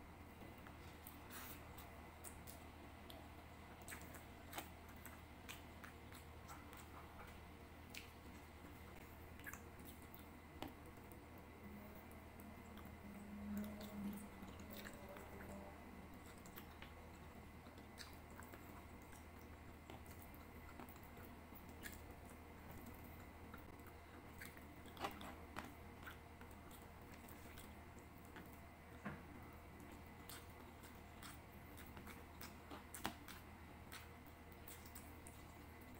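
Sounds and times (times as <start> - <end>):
close-miked chewing: 0.4 - 35.9.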